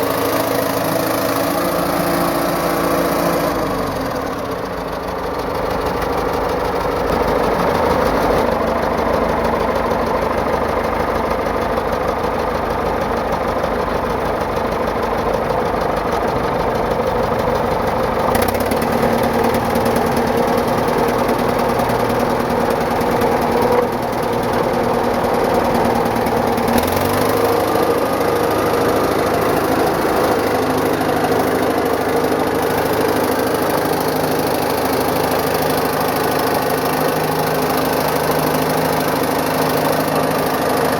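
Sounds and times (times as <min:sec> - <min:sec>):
loader diesel engine running: 0:00.0 - 0:40.9.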